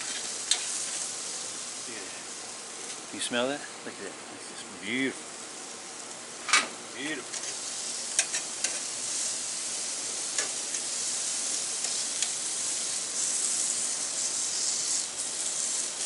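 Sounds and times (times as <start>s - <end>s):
steaks sizzling on grill: 0.0s - 16.0s.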